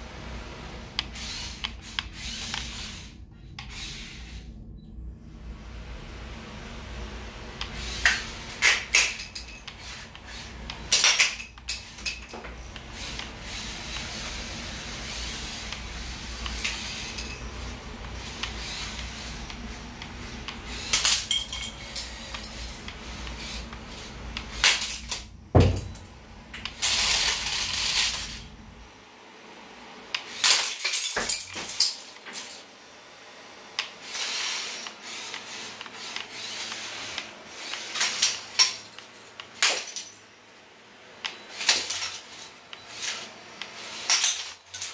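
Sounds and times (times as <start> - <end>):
robot motors humming: 0.0 - 30.4, 32.3 - 38.6.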